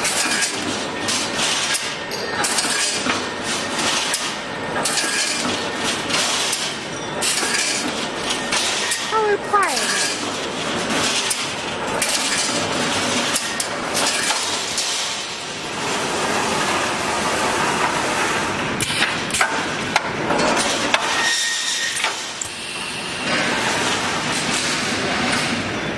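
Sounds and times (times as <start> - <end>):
welding machine crackling and clanking: 0.0 - 22.6, 23.2 - 25.6.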